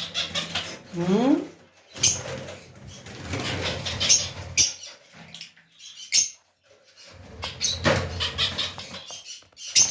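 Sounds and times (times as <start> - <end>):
birds squeaky calls: 0.0 - 9.9.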